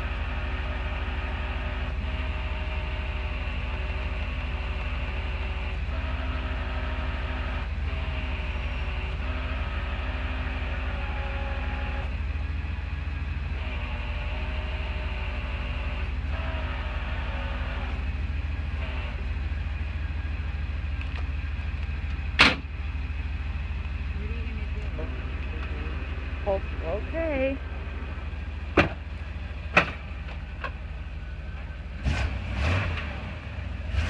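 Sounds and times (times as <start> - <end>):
truck engine running under load: 0.0 - 34.0.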